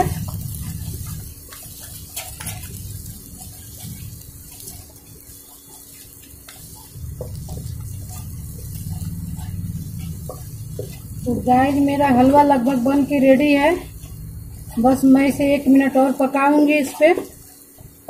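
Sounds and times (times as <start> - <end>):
hissing sizzle of fat: 0.0 - 18.0
spatula scraping a pan: 0.0 - 18.0.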